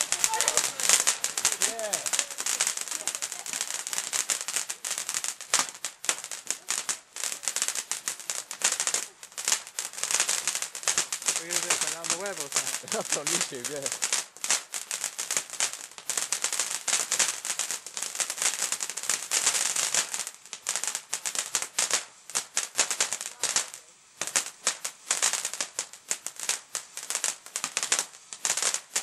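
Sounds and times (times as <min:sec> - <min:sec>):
fountain firework crackling hiss: 0:00.0 - 0:29.0.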